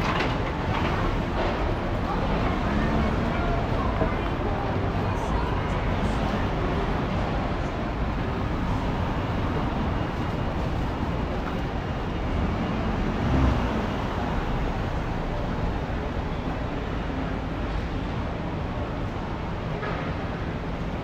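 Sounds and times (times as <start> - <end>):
passing vehicles rumbling: 0.0 - 21.0.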